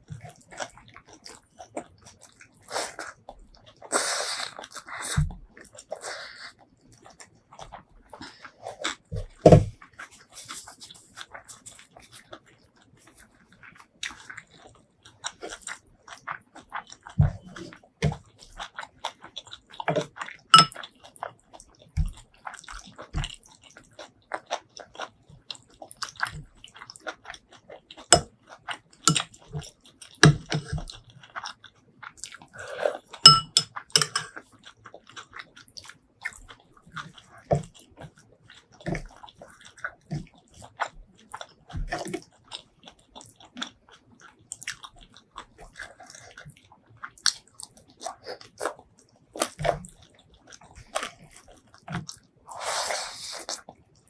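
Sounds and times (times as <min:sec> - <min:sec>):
wet chewing and smacking: 0:00.0 - 0:54.0.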